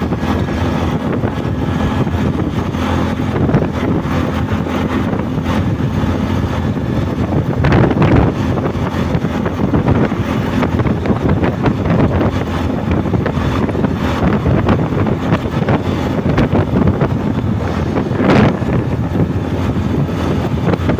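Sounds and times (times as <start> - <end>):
vehicle rumble: 0.0 - 20.9
wind buffeting microphone: 0.0 - 20.9.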